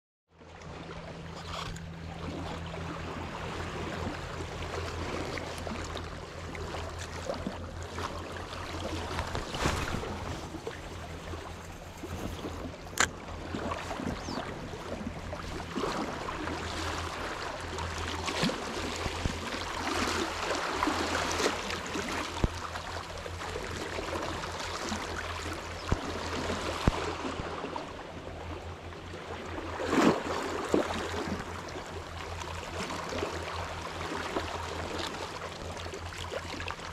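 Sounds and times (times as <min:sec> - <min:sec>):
steady low hum: 0:00.4 - 0:36.9
waves lapping on rocks: 0:01.3 - 0:28.0, 0:29.3 - 0:36.9.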